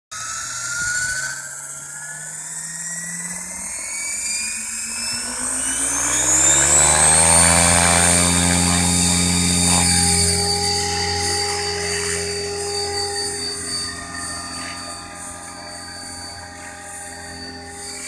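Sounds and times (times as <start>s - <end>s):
electric motor whine: 0.2s - 18.0s
helicopter rotor hum: 0.2s - 18.0s.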